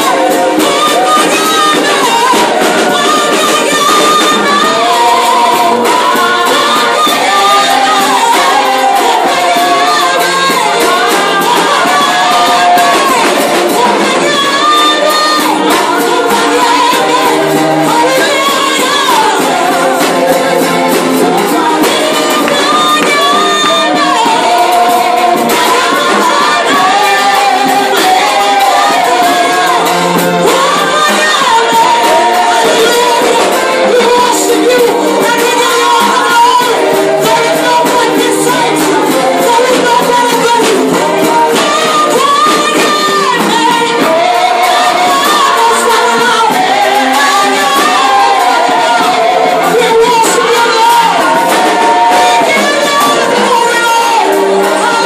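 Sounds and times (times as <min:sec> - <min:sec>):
drum kit: 0:00.0 - 0:55.0
electronic keyboard accompaniment: 0:00.0 - 0:55.0
people shouting: 0:00.0 - 0:55.0
women singing gospel: 0:00.0 - 0:55.0.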